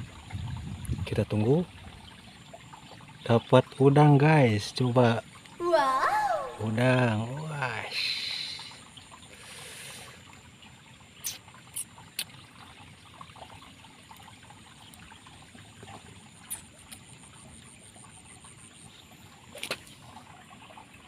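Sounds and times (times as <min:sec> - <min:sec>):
water trickling in a ditch: 0:00.0 - 0:21.0.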